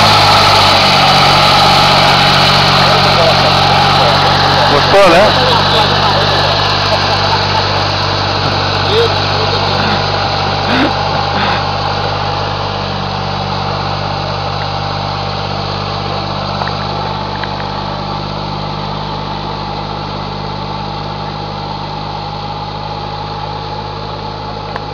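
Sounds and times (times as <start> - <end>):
high steady whine: 0.0 - 24.9
tractor diesel engine droning: 0.0 - 24.9.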